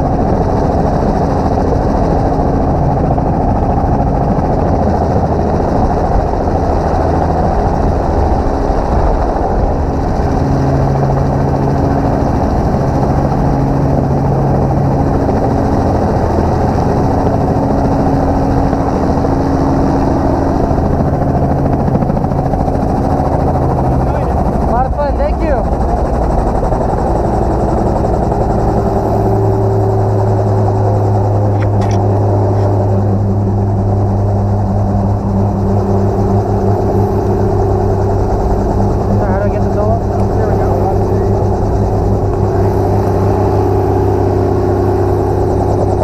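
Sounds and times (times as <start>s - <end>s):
helicopter rotor and engine drone: 0.0s - 46.0s.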